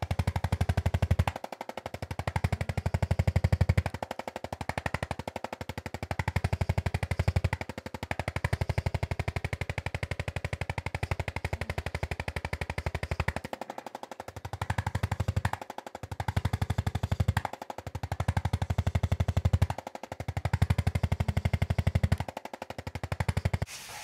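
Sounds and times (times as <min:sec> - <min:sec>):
rapid electric tapping: 0:00.0 - 0:23.8.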